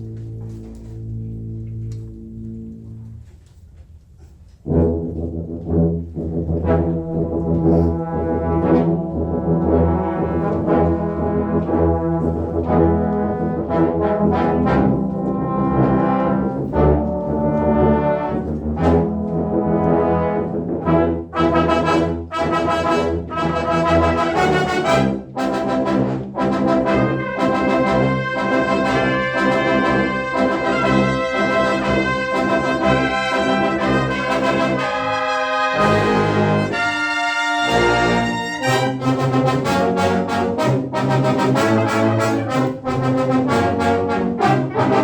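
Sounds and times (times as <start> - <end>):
brass ensemble playing: 4.5 - 45.0.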